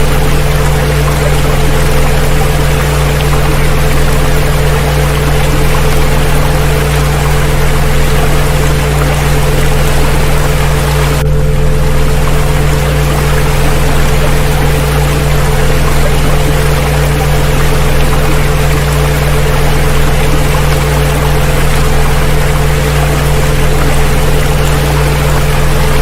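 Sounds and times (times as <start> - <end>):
electronic tones humming: 0.0 - 26.0
rushing water: 0.0 - 26.0.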